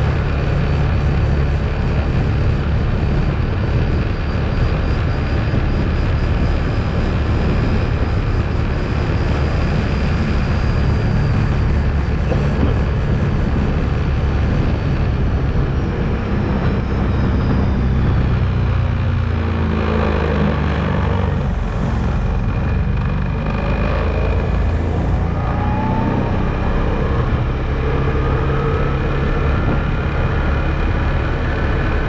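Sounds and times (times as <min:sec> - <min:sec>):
atv engine droning: 0:00.0 - 0:32.0.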